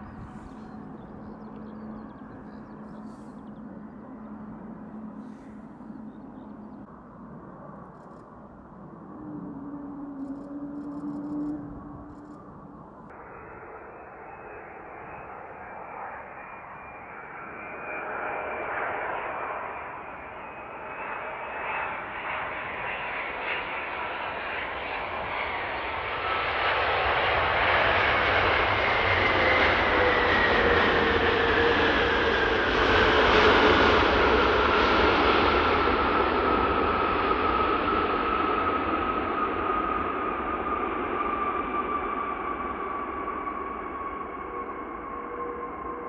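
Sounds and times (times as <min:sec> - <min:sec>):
jet engines of landing airliner: 0:00.0 - 0:09.2, 0:10.8 - 0:46.0.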